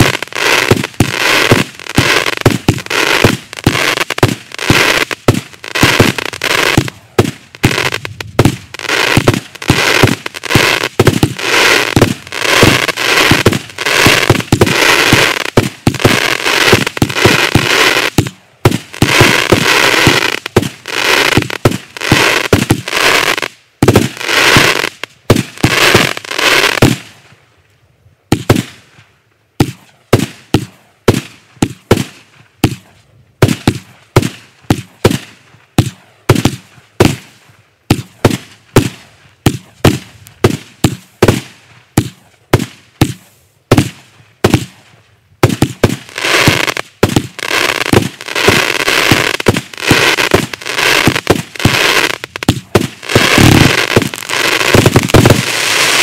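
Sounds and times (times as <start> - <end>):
firework cake firing: 0.0 - 27.2, 28.3 - 28.9, 33.4 - 44.8, 45.4 - 56.0.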